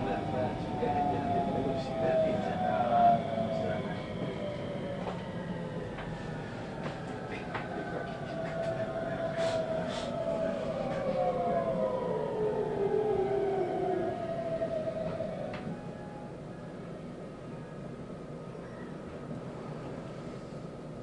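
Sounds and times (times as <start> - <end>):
electric train inverter whine: 0.0 - 21.0
train running gear rumble: 0.0 - 21.0.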